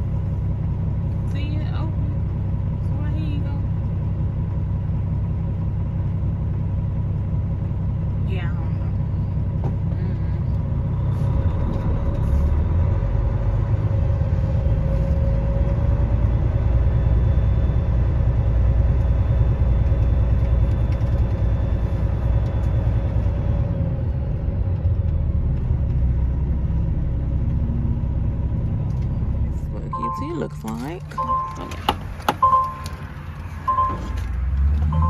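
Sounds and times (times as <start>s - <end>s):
diesel truck engine rumble: 0.0s - 35.0s.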